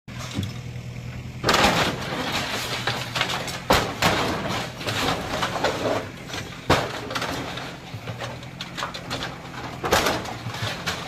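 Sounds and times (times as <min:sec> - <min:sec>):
low engine hum: 0:00.1 - 0:11.0
crashing of breaking material: 0:01.4 - 0:11.0.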